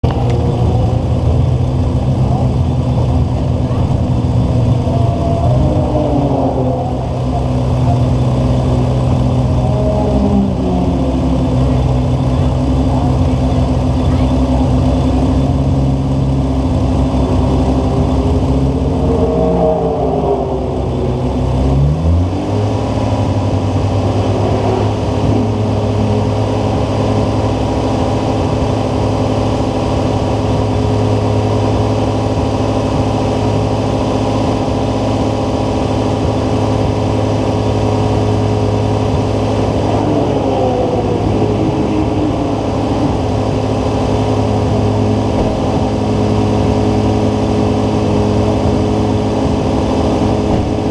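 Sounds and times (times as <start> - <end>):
car engine running at low revs: 0.0 - 50.9.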